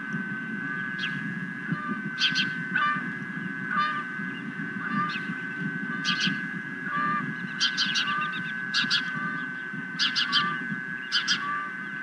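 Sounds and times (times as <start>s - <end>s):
high electronic whine: 0.0s - 12.0s
low wind rumble: 0.0s - 12.0s
osprey chirping: 0.6s - 12.0s.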